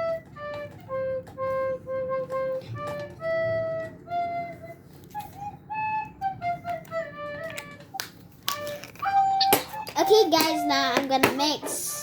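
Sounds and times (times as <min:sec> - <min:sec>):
wind instrument melody: 0:00.0 - 0:11.0.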